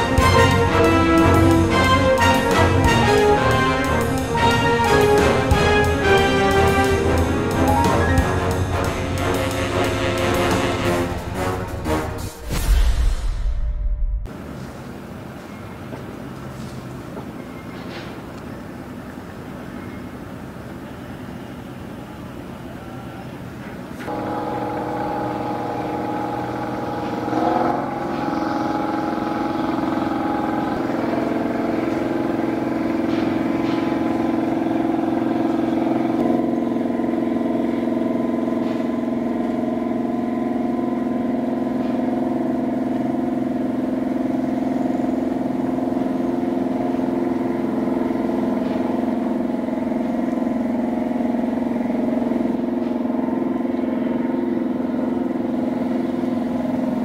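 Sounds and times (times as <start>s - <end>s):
marine engine drone: 0.0s - 12.2s, 18.5s - 57.0s.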